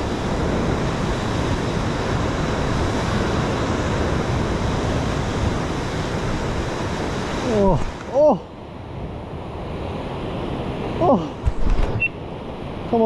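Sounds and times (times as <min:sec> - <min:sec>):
ocean surf against rocks: 0:00.0 - 0:13.0
wind buffeting microphone: 0:00.0 - 0:13.0.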